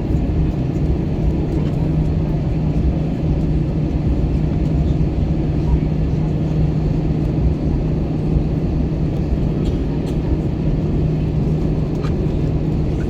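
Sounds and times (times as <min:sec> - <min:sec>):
aircraft engines rumbling: 0:00.0 - 0:13.0
constant low cabin hum: 0:00.0 - 0:13.0.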